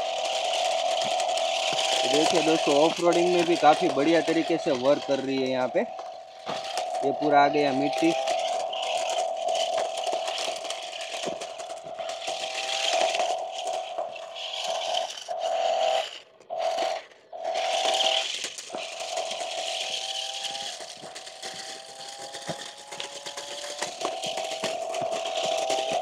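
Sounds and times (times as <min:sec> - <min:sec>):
gravel rattling under wheels: 0:00.0 - 0:26.0
rc car electric motor whining: 0:00.0 - 0:26.0.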